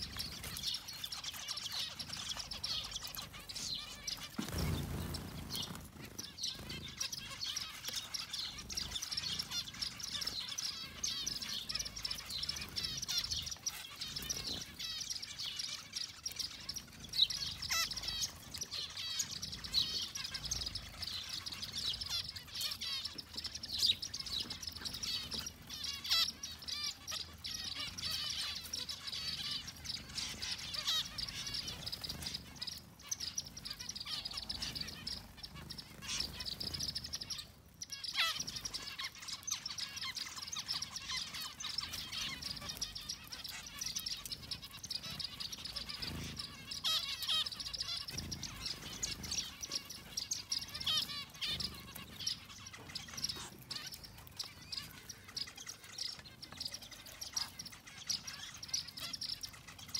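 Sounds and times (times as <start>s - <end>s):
finches chirping: 0.0s - 59.9s.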